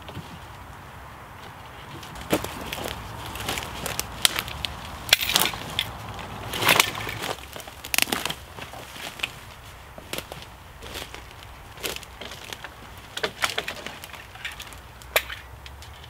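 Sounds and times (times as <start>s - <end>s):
twigs crackling and snapping underfoot: 0.0s - 16.0s
branch dragged through undergrowth: 1.4s - 15.1s.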